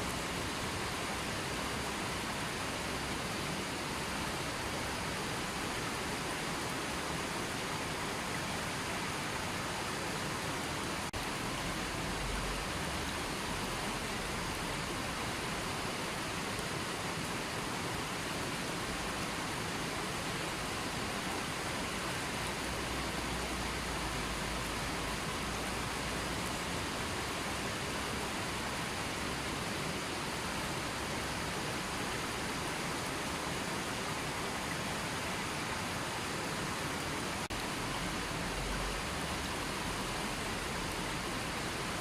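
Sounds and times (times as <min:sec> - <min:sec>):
river water flowing: 0:00.0 - 0:42.0.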